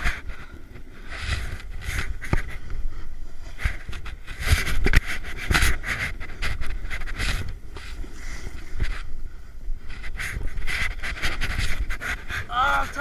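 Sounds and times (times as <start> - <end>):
snow scraping under skis: 0.0 - 13.0
wind rumbling on microphone: 0.0 - 13.0.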